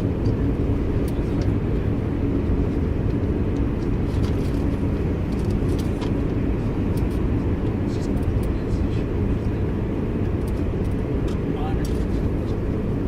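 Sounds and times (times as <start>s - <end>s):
train rumble from inside: 0.0s - 13.0s.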